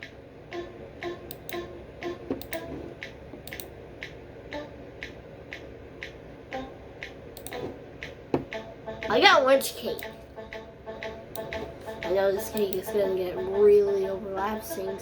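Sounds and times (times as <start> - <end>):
ticking clock-like clicks: 0.0 - 13.1.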